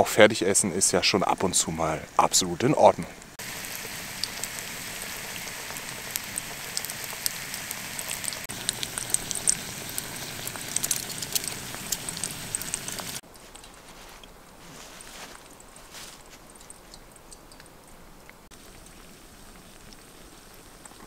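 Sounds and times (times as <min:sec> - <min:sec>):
patties sizzling in fat: 0:01.8 - 0:17.4, 0:18.5 - 0:21.0.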